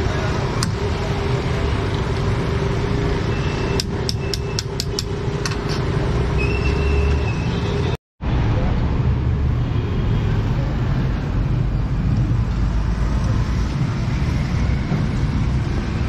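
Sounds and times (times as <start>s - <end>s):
roadside traffic rumble: 0.0s - 16.0s.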